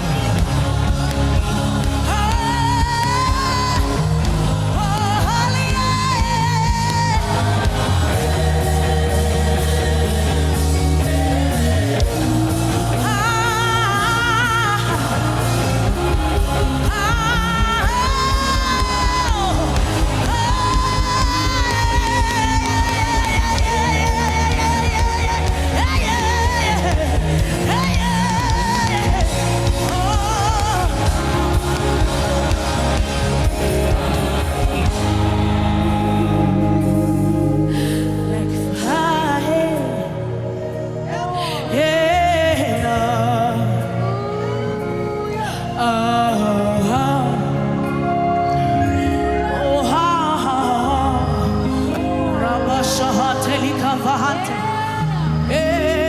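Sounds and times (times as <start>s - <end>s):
sustained low chords: 0.0s - 54.0s.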